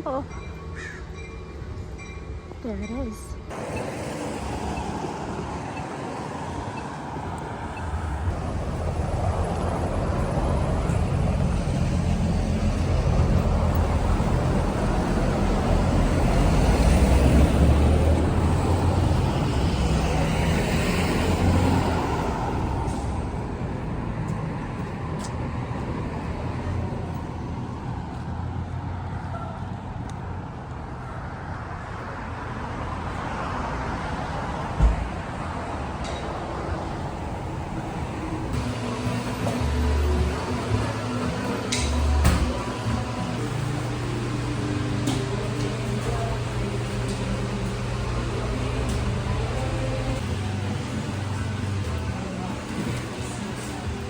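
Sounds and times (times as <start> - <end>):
heavy vehicle engine rumble: 1.6 - 54.0.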